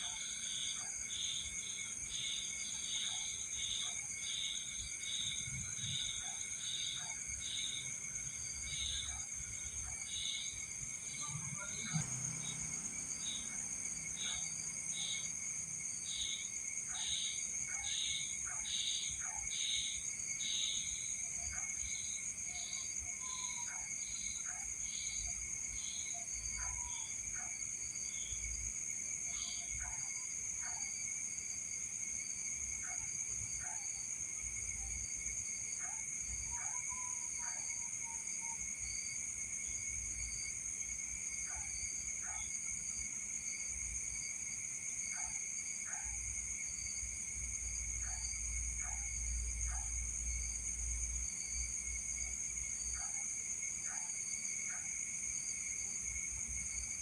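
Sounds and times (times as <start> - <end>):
crickets trilling: 0.0 - 57.0
slow repeated insect chirp: 0.0 - 57.0.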